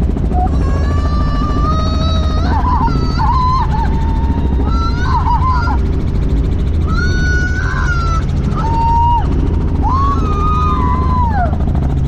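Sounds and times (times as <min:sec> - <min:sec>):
helicopter rumble: 0:00.0 - 0:12.0.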